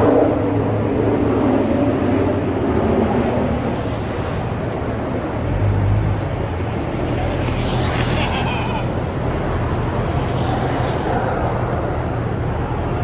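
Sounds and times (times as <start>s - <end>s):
passing vehicle engines: 0.0s - 13.0s.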